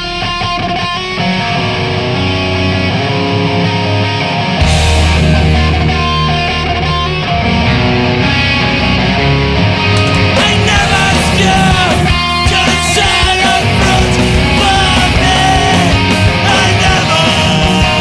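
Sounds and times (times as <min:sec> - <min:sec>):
hardcore punk with distorted guitars: 0:00.0 - 0:18.0.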